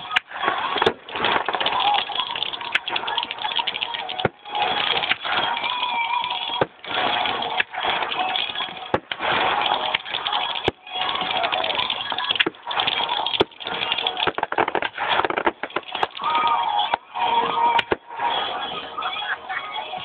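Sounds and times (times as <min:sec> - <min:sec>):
fireworks crackling and banging: 0:00.0 - 0:19.2
crowd voices: 0:00.0 - 0:20.0.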